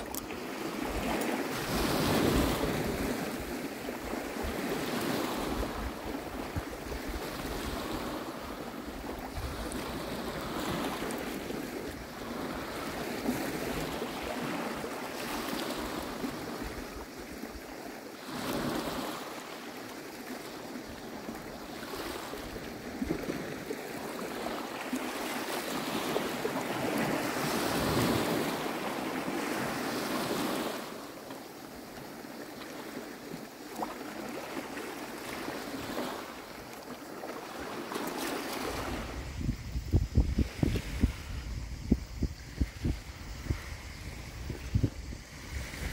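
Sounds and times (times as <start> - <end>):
wind on microphone: 0.0 - 19.3, 21.2 - 31.0, 37.5 - 45.9
waves washing on pebble shore: 0.0 - 39.6.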